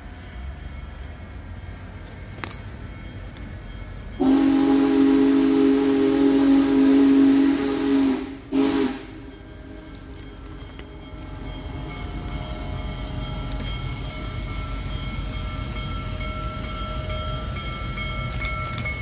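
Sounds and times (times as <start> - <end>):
steam locomotive chime whistle: 2.8 - 19.0.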